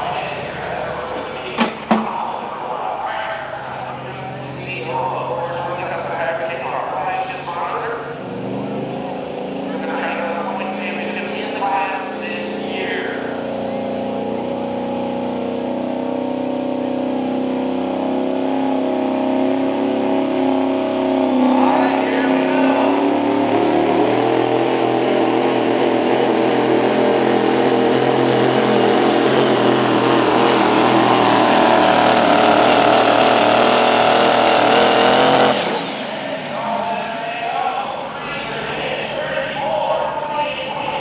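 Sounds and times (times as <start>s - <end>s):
pulling truck engine running: 0.0s - 41.0s.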